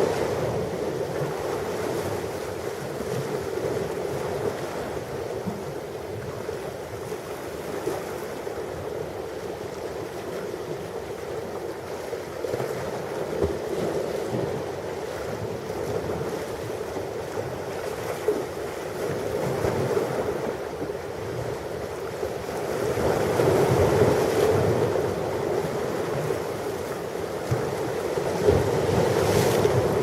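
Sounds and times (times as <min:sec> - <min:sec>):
ocean waves washing on shore: 0:00.0 - 0:30.0.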